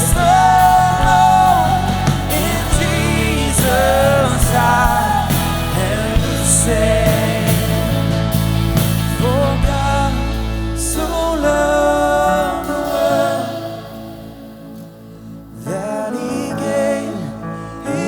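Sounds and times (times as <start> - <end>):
band with sustained bass: 0.0 - 14.8
person singing: 0.0 - 18.0.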